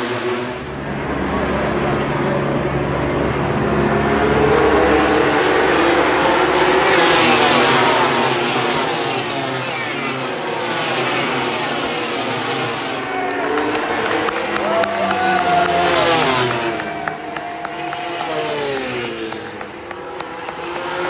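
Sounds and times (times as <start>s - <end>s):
race motorcycles passing at speed: 0.0s - 21.0s.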